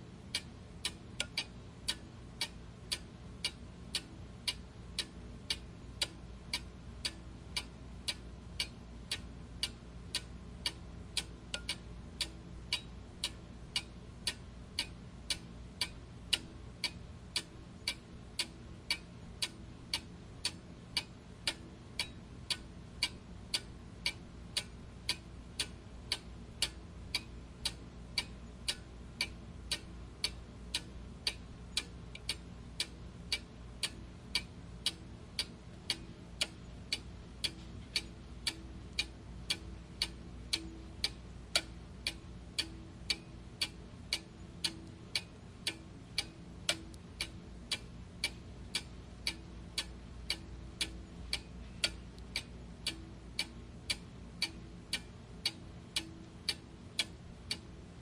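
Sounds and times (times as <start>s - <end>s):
faint low hum: 0.0s - 58.0s
clock ticking: 0.2s - 58.0s.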